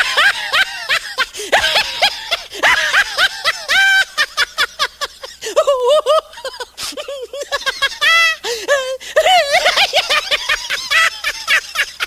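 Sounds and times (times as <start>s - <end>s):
high-pitched cackling laugh: 0.0s - 8.4s, 9.2s - 12.0s.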